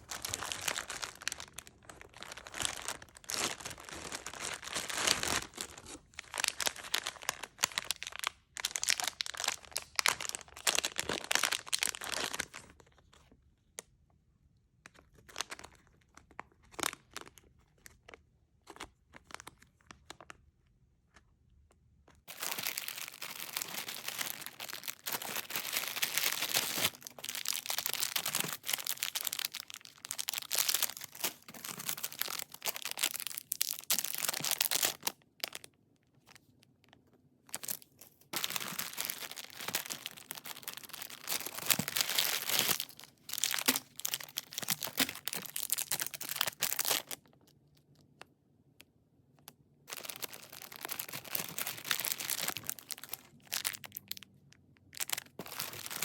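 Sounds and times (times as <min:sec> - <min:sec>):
packaging crinkling and tearing: 0:00.0 - 0:13.3, 0:14.8 - 0:20.4, 0:22.3 - 0:36.5, 0:37.5 - 0:47.5, 0:49.9 - 0:54.3, 0:54.9 - 0:56.0.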